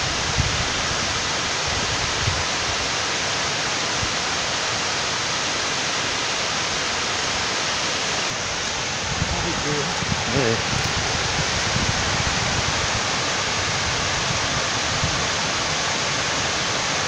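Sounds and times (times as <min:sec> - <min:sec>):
water rushing down spillway: 0:00.0 - 0:17.0.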